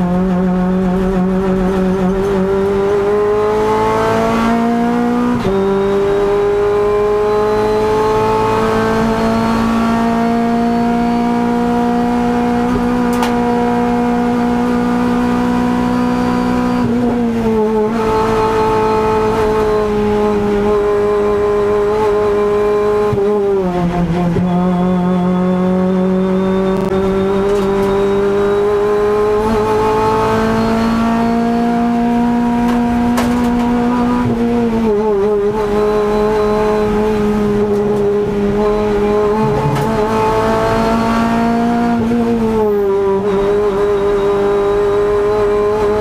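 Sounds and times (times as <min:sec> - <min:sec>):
race car engine at full throttle: 0:00.0 - 0:46.0.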